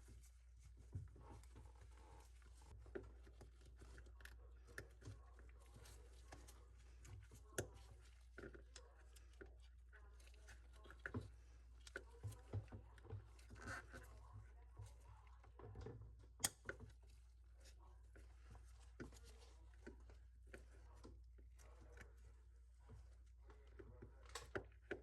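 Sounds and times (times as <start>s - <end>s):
faint clicks and knocks: 0.0s - 25.0s.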